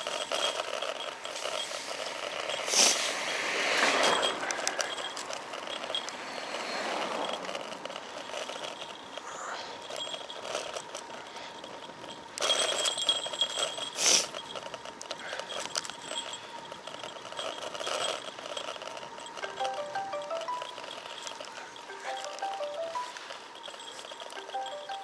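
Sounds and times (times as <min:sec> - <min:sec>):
bike rattling over road: 0:00.0 - 0:25.0.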